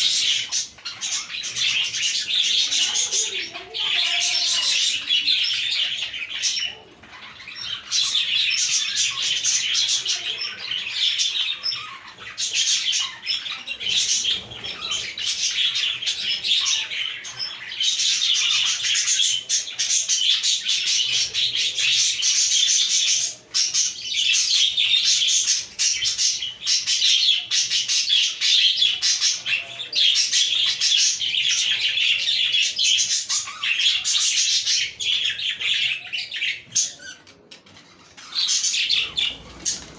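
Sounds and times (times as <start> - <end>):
flock of budgerigars chirping: 0.0 - 39.9.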